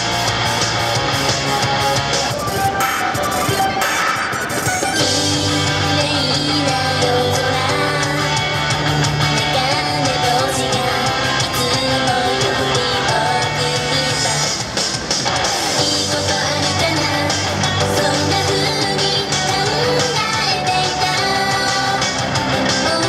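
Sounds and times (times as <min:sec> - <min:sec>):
upbeat pop-rock song: 0:00.0 - 0:23.0.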